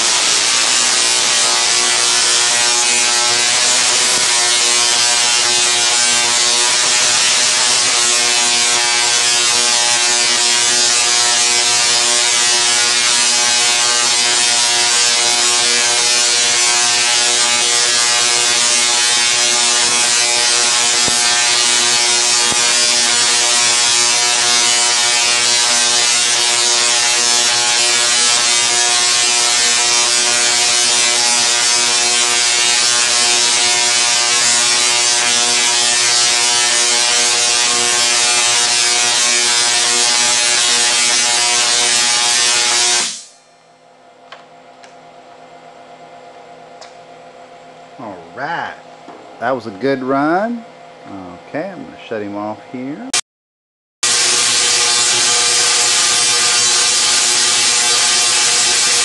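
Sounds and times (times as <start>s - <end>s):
tesla coil buzzing: 0.0s - 43.5s, 54.0s - 59.0s.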